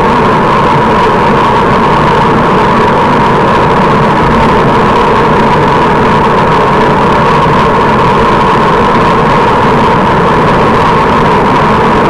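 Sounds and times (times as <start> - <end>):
steady hum: 0.0 - 12.0
wind and tyre noise: 0.0 - 12.0.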